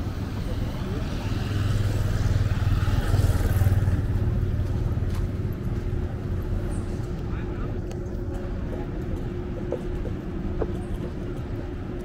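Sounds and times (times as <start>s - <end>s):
steady traffic noise: 0.0s - 12.0s.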